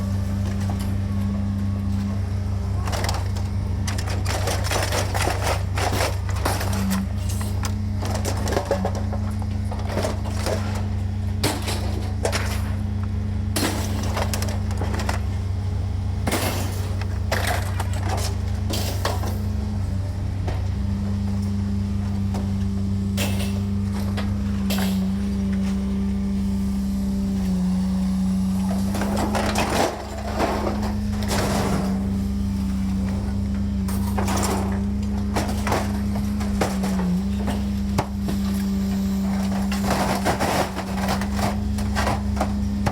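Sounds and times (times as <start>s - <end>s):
engine droning: 0.0s - 42.9s.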